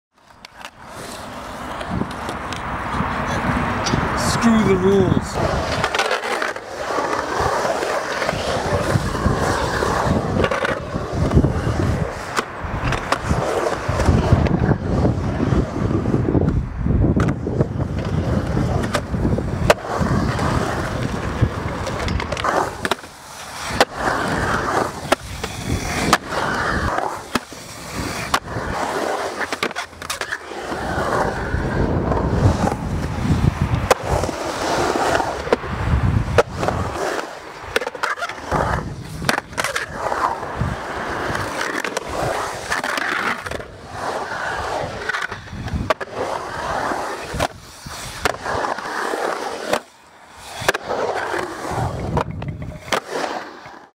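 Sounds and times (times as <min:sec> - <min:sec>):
skateboard wheels rolling on concrete: 0:00.1 - 0:53.9
skateboard knocks and clacks: 0:00.2 - 0:49.9, 0:50.6 - 0:53.9.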